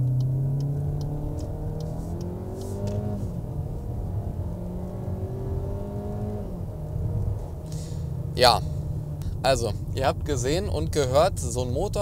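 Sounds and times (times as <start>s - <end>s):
car engine accelerating at full throttle: 0.0s - 12.0s.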